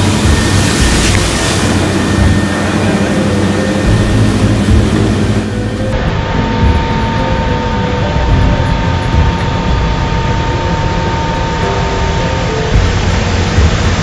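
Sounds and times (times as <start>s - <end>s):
engine and compressor drone: 0.0s - 14.0s
water gushing: 0.0s - 14.0s.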